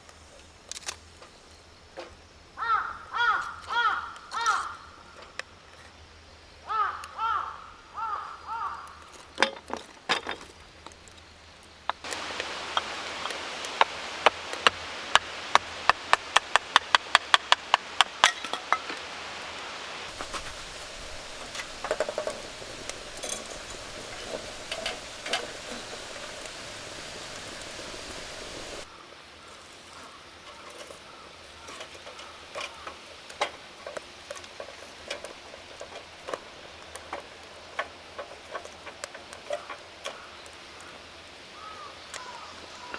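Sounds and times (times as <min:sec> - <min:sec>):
wood fire hissing and crackling: 0:00.0 - 0:02.5, 0:08.9 - 0:42.9.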